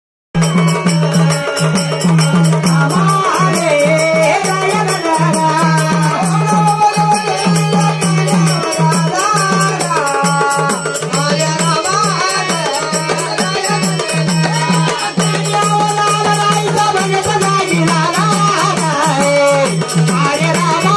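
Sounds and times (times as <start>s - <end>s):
pulsing drum beat: 0.4s - 20.9s.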